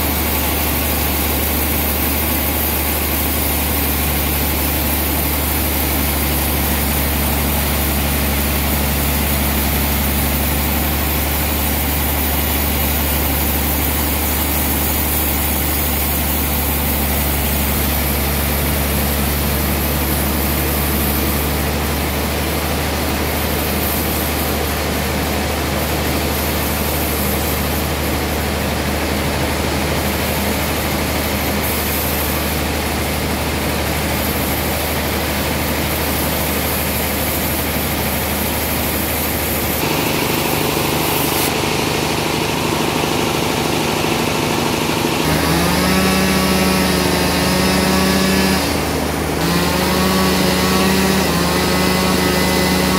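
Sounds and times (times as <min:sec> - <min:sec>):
chainsaw revving: 0:00.0 - 0:52.9
sawmill machinery droning: 0:00.0 - 0:52.9.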